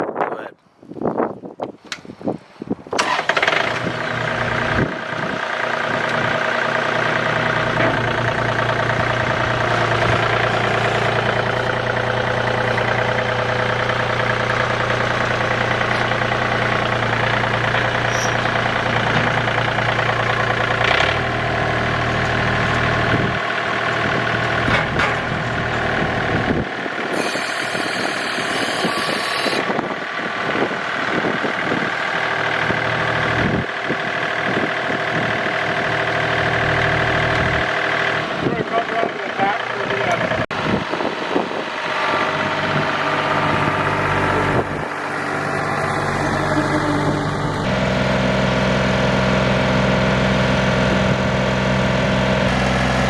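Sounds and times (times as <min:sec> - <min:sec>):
tractor diesel engine idling: 0:03.0 - 0:53.0.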